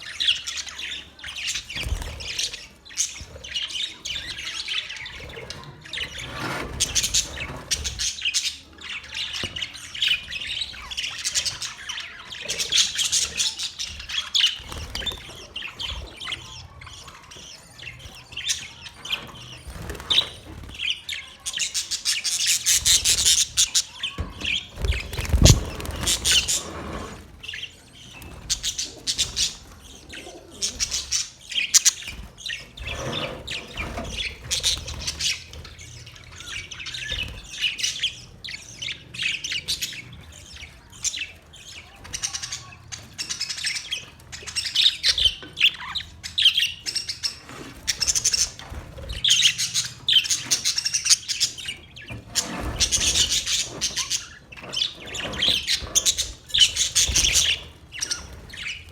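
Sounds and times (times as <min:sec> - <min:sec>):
budgerigars chirping: 0:00.0 - 0:58.9.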